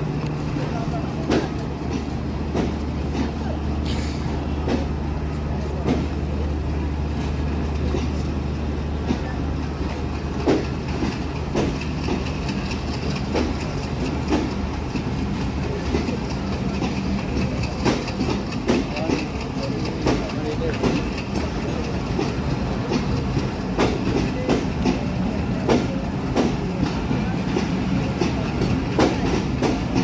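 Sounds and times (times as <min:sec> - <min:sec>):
train running hum: 0:00.0 - 0:30.0.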